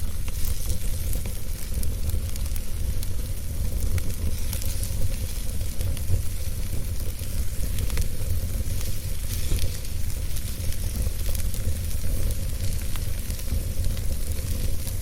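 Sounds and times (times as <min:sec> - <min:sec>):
fire rumble and hiss: 0:00.0 - 0:15.0
wood fire crackling and popping: 0:00.0 - 0:15.0.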